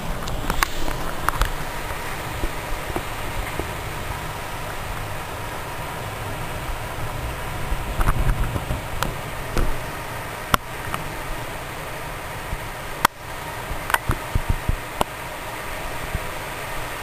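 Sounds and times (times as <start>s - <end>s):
heavy rain hiss: 0.0s - 17.0s
wind gusts buffeting microphone: 0.0s - 17.0s.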